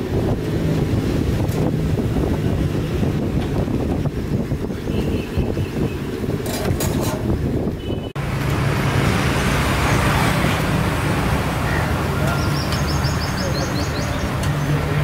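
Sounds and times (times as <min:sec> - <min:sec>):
street noise rumble: 0:00.0 - 0:15.0.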